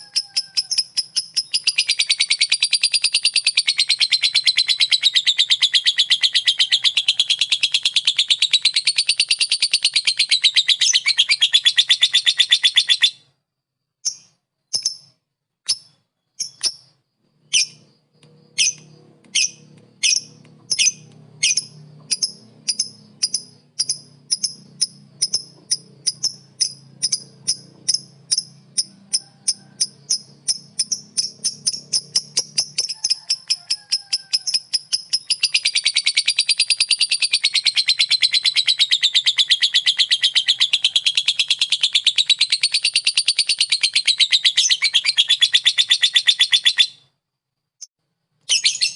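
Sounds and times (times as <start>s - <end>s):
bird chattering rapidly: 0.0s - 13.2s, 18.5s - 47.0s
bird chirping sharply: 0.0s - 13.3s, 14.0s - 47.1s, 48.5s - 48.9s.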